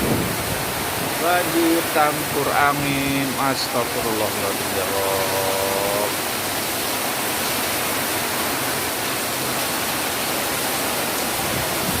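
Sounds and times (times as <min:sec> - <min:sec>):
heavy rain with wind: 0:00.0 - 0:12.0.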